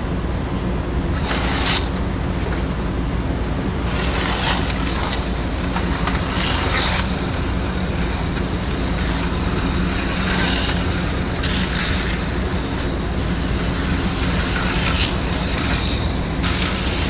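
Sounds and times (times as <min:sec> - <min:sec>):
slot car motors humming: 0:00.1 - 0:17.0.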